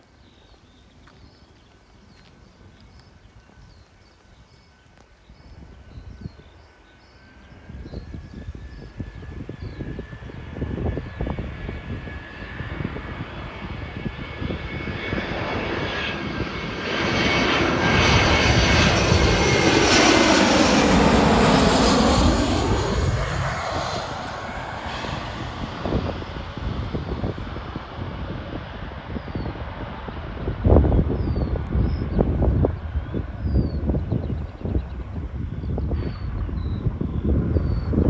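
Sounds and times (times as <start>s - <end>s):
jet airliner passing: 0.4s - 38.0s
wind buffeting microphone: 2.3s - 38.0s.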